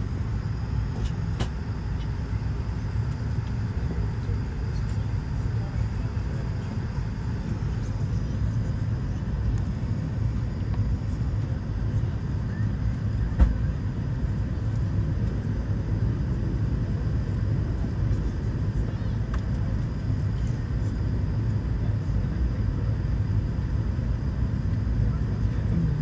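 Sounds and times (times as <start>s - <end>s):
low cabin rumble: 0.0s - 26.0s.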